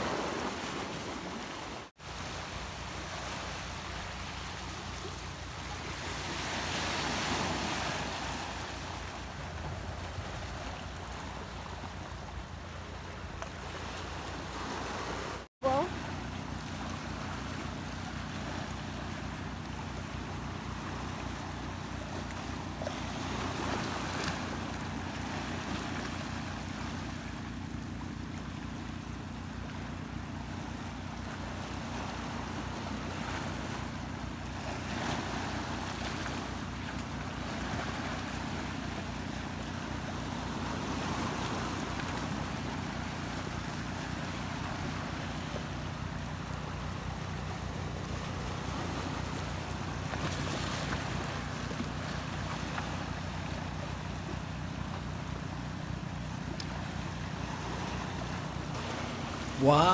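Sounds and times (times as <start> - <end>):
waves splashing on rocks: 0.0 - 59.9
steady low hum: 1.7 - 59.7.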